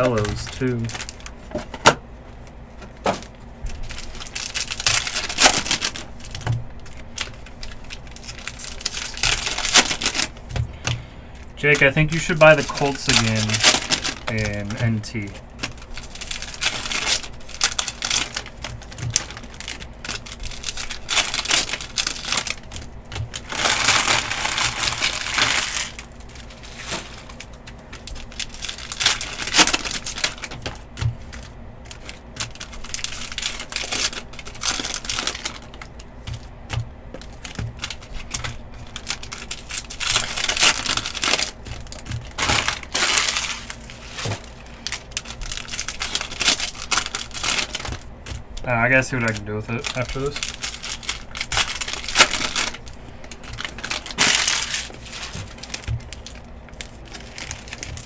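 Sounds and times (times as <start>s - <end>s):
plastic wrappers crinkling and tearing: 0.0s - 58.0s.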